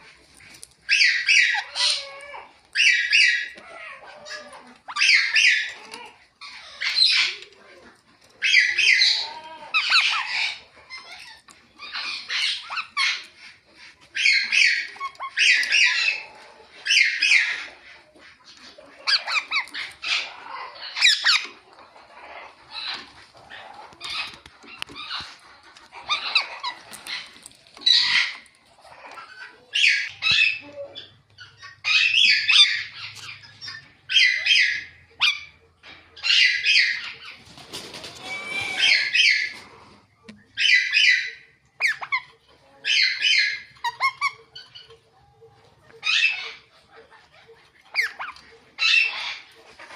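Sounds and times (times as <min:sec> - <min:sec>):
parrot chirping and squawking: 0:00.0 - 0:07.6, 0:08.2 - 0:49.9.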